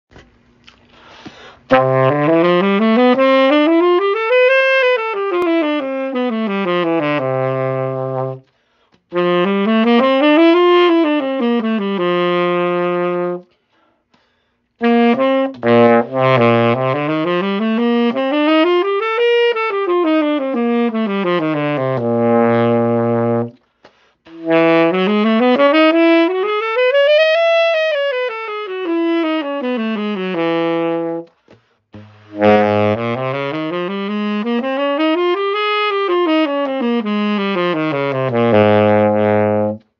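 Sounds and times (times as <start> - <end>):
baritone saxophone playing scales: 1.4 - 13.8, 14.8 - 39.9.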